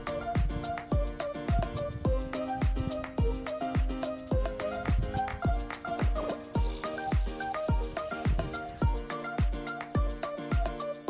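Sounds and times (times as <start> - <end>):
deep kick drum: 0.0 - 9.0
electronic background music: 0.0 - 11.0.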